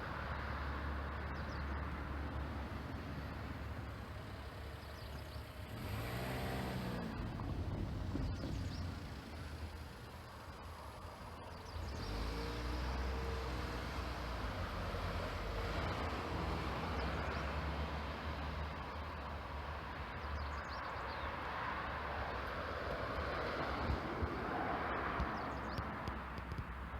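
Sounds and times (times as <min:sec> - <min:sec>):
motor vehicles passing: 0:00.0 - 0:26.9.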